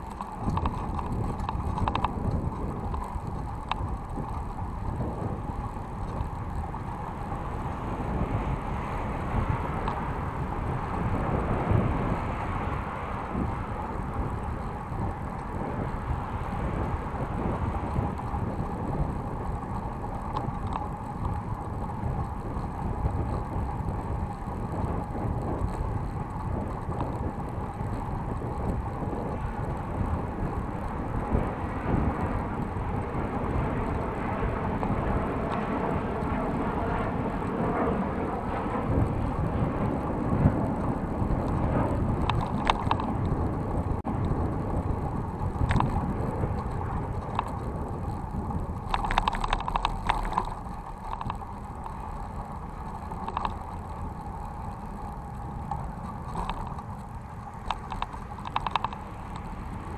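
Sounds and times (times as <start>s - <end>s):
bike rattles and clicks: 0.0s - 59.9s
tyre and wind rumble: 0.0s - 59.9s.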